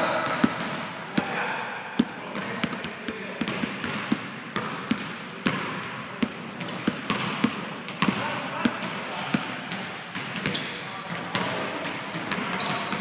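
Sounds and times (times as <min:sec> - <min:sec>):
basketballs bouncing on hardwood: 0:00.1 - 0:01.4, 0:02.0 - 0:13.0.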